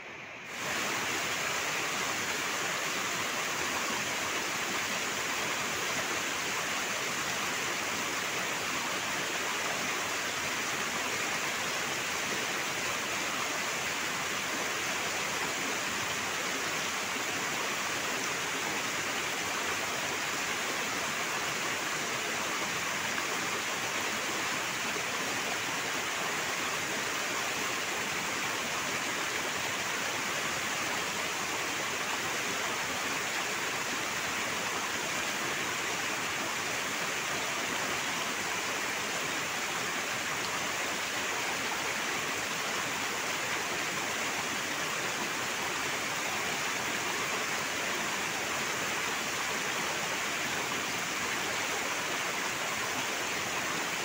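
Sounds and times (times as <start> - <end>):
water rushing over rocks: 0.5 - 54.0.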